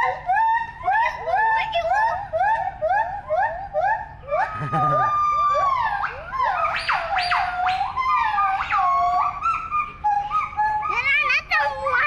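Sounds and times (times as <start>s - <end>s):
gibbons whooping: 0.0s - 12.0s.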